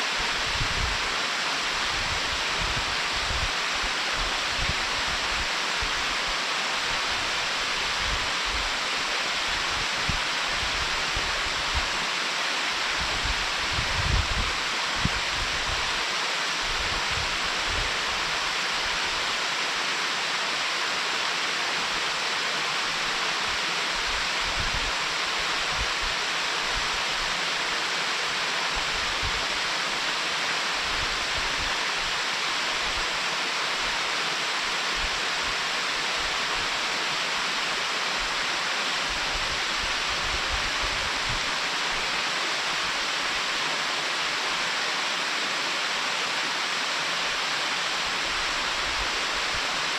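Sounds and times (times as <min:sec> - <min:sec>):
stream water rushing over weir: 0:00.0 - 0:49.9.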